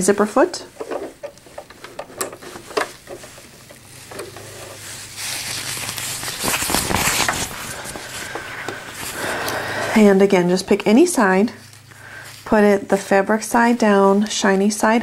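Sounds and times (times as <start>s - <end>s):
low steady hum: 0.0s - 15.0s
fabric rustling and crinkling: 0.1s - 15.0s.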